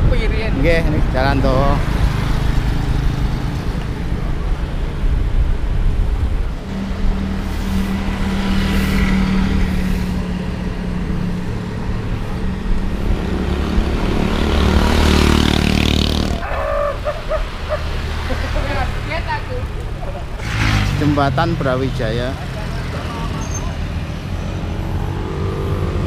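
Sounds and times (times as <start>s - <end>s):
vehicle engine humming: 0.0s - 26.0s
motorcycle passing alongside: 0.4s - 5.4s, 6.4s - 26.0s.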